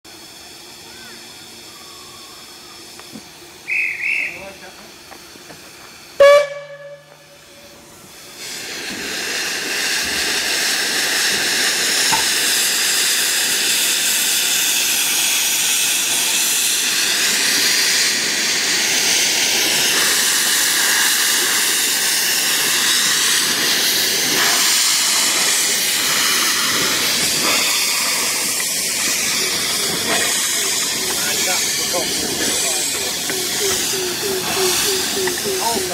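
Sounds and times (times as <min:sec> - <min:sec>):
steam locomotive hissing: 0:00.0 - 0:35.9.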